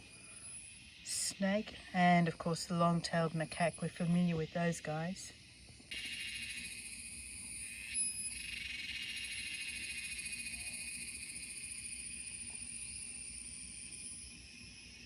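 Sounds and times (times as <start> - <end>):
insect chirp: 0.0 - 15.0
insects shrilling: 0.0 - 15.0.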